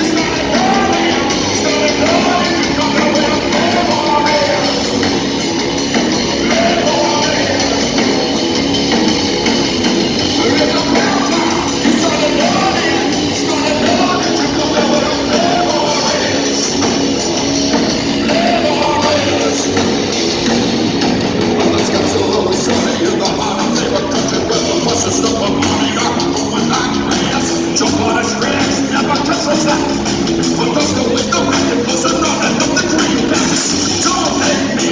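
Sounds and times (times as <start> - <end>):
bass guitar: 0.0 - 34.9
distorted electric guitars: 0.0 - 34.9
drums: 0.0 - 34.9
singing or lead guitar line: 0.0 - 34.9.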